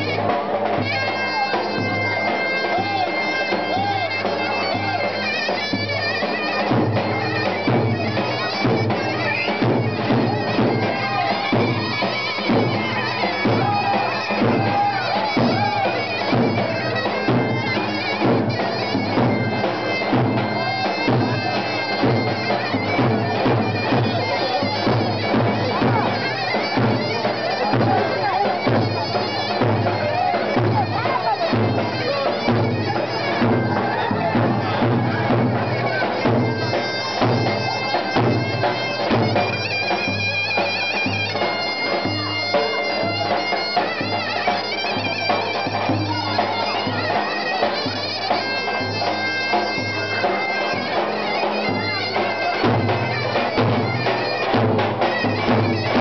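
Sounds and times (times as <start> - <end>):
crowd voices: 0.0 - 56.0
reedy wind instrument melody: 0.0 - 56.0
steady drum beat: 0.0 - 56.0.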